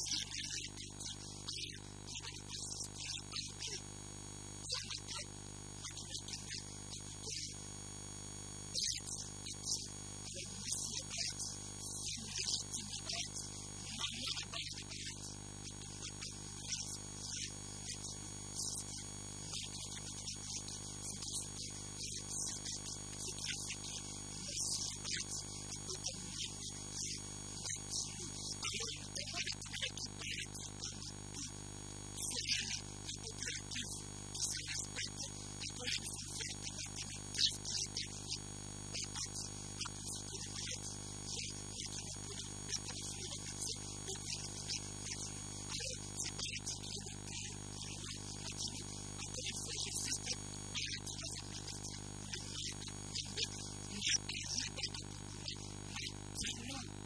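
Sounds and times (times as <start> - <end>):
hissy man's voice: 0.0 - 3.9, 4.6 - 7.7, 8.8 - 57.0
electrical mains hum: 0.0 - 57.0.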